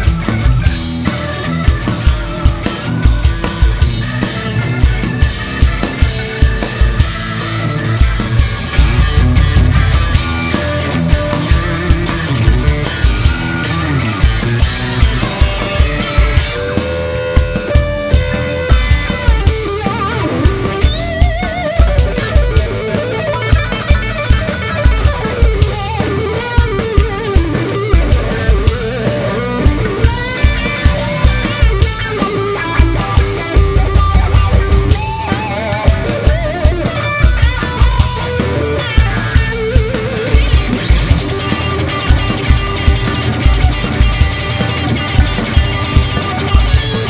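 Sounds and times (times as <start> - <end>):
bass guitar: 0.0 - 47.0
drum beat: 0.0 - 47.0
electric guitar solo: 0.0 - 47.0.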